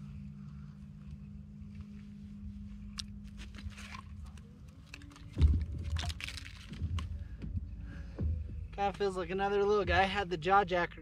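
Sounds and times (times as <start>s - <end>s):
low wind rumble: 0.0s - 11.0s
steady low hum: 0.0s - 11.0s.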